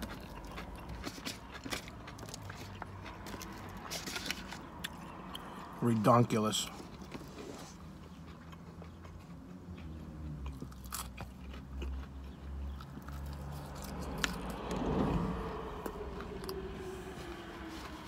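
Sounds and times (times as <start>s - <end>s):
chewing and crunching fried food: 0.0s - 18.0s.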